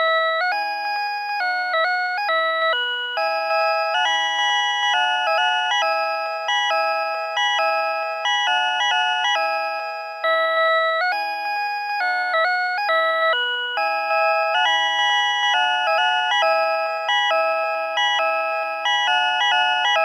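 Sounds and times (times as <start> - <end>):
electronic chime melody: 1.6 - 20.0.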